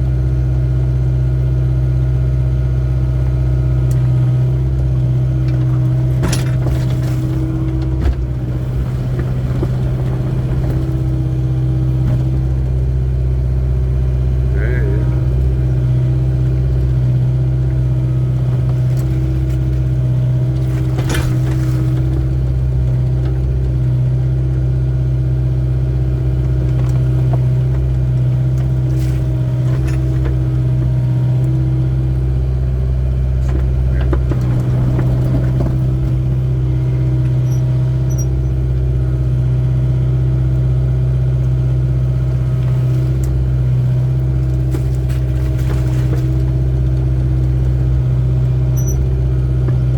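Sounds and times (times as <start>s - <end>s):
excavator diesel engine drone: 0.0s - 49.9s
excavator knocks and clanks: 3.2s - 13.7s, 14.4s - 49.9s.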